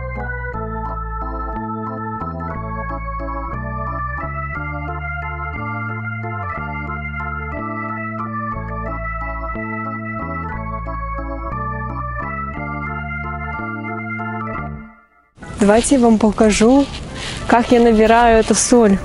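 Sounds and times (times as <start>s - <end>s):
background music with held chords: 0.0s - 15.4s.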